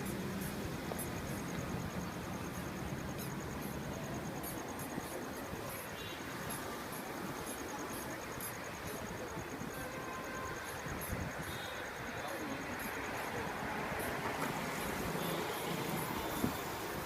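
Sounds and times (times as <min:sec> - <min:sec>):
street background noise: 0:00.0 - 0:17.0.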